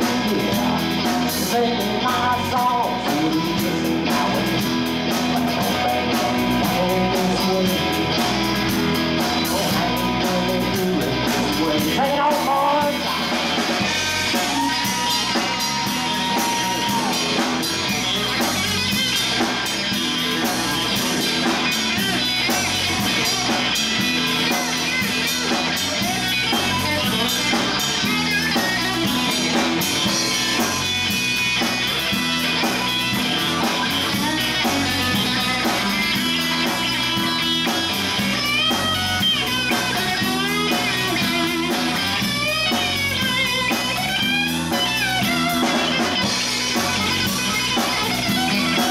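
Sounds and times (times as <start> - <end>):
drum kit: 0.0 - 48.9
electric bass: 0.0 - 48.9
electric guitar lead: 0.0 - 48.9.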